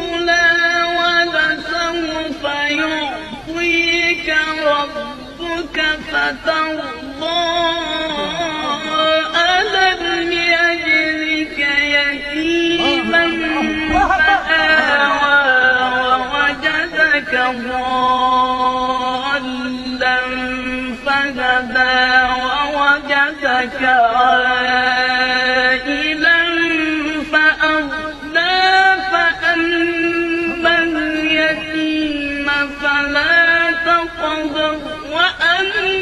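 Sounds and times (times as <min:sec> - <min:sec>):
man chanting: 0:00.0 - 0:36.0.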